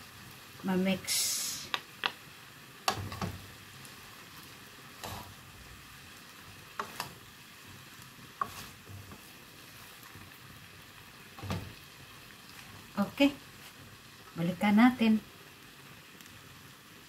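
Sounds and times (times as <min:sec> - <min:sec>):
rice sizzling in pan: 0:00.0 - 0:17.0.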